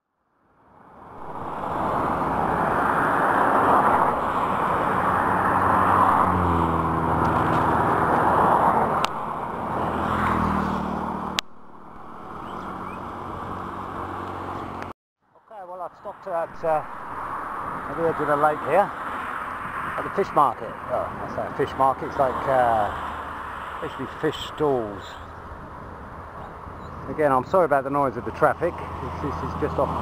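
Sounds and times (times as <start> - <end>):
road traffic rushing: 0.5 - 14.9, 15.6 - 30.0
passing vehicle engine: 0.8 - 14.9, 16.4 - 27.3, 28.1 - 30.0.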